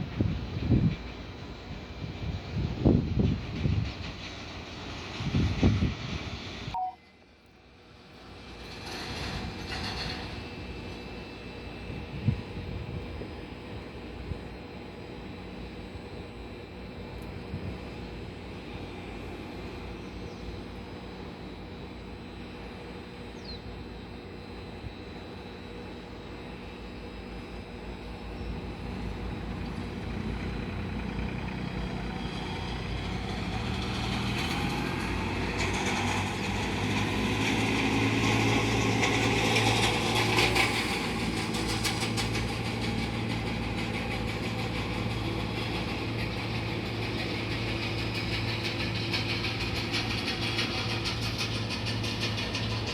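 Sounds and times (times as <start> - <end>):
propeller drone: 0.0 - 52.9
turboprop engine whining: 0.0 - 52.9.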